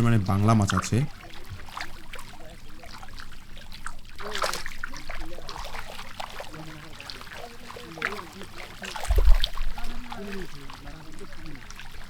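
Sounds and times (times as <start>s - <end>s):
faint voices: 0.0s - 12.0s
fish splashing in shallow water: 0.0s - 12.0s.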